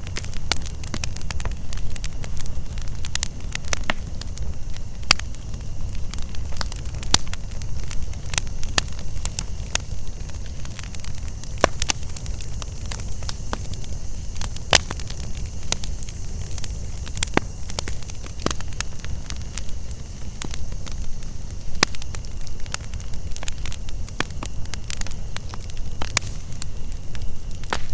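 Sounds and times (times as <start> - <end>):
campfire crackling and popping: 0.0 - 27.9
low rumble of flames: 0.0 - 27.9
night insects chirring: 0.0 - 27.9.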